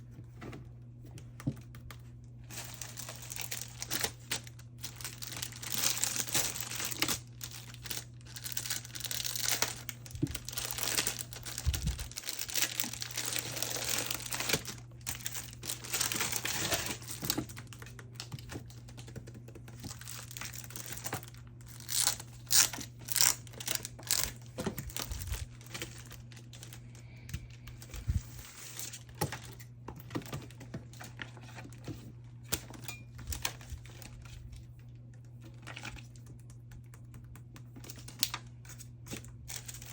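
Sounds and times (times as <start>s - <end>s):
plastic sleeves crinkling: 0.0s - 39.9s.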